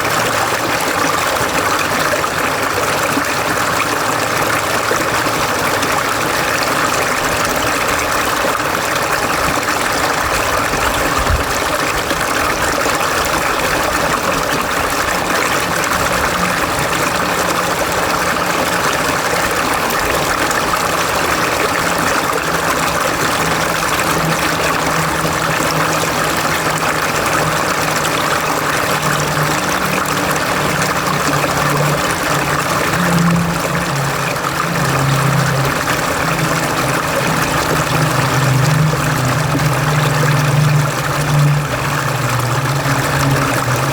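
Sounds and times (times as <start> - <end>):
low droning hum: 0.0 - 43.9
stream running: 0.0 - 43.9.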